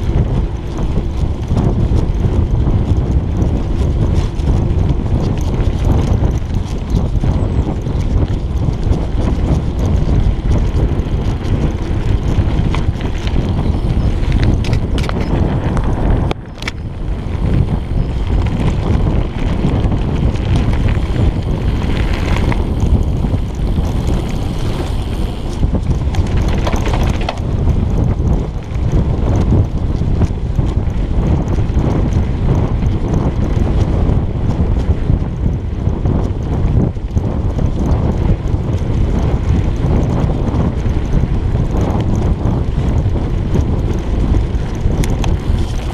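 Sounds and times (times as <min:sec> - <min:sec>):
bike rattles and knocks: 0:00.0 - 0:45.9
bike tyre rumble on gravel: 0:00.0 - 0:45.9
wind buffeting microphone: 0:00.0 - 0:45.9.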